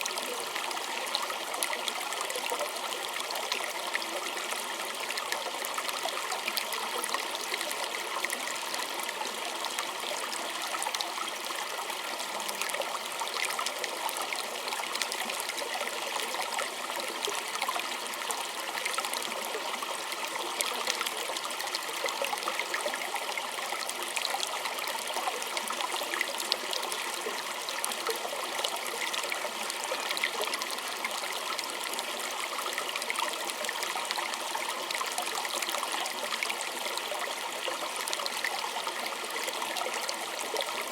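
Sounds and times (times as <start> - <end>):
stream trickling over stones: 0.0 - 40.9.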